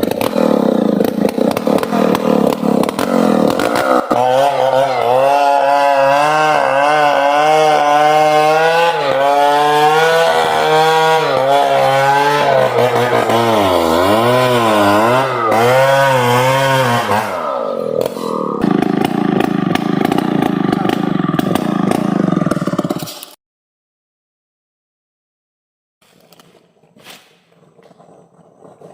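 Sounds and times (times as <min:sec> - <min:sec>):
chainsaw cutting wood: 0:00.0 - 0:23.4, 0:26.0 - 0:28.9.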